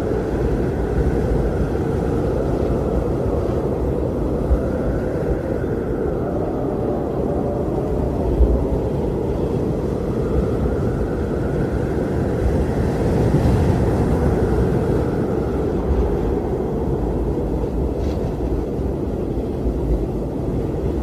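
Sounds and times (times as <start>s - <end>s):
blizzard wind blowing hard: 0.0s - 21.0s.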